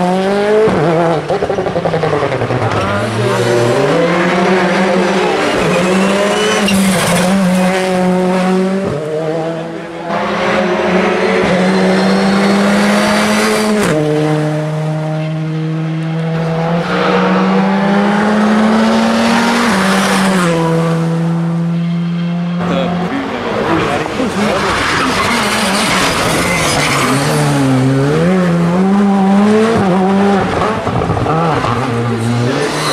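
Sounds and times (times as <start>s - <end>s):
rally car engine revving hard: 0.0s - 32.9s.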